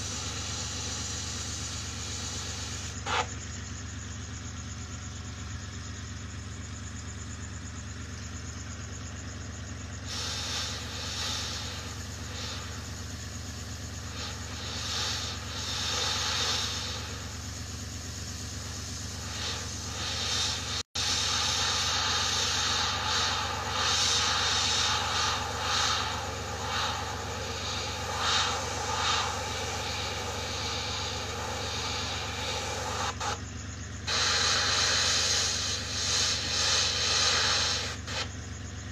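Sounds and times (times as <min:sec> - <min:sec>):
airbrush spraying hiss: 0:00.0 - 0:04.8, 0:10.0 - 0:38.9
steady low hum: 0:00.0 - 0:38.9.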